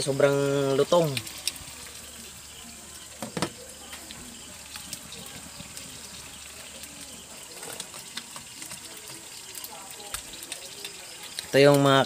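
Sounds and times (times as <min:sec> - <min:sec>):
food frying in oil: 0:00.0 - 0:12.0.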